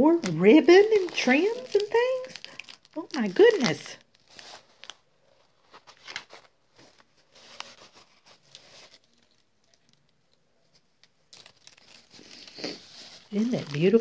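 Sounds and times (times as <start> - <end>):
lace rustling: 0.0 - 14.0.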